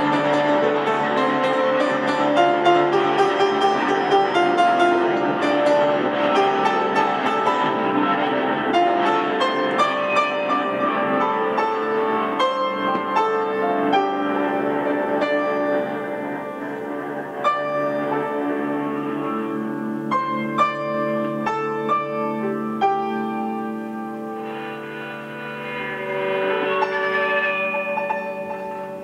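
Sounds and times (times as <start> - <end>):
electric guitar: 0.0 - 29.0
upright piano playing: 0.0 - 29.0.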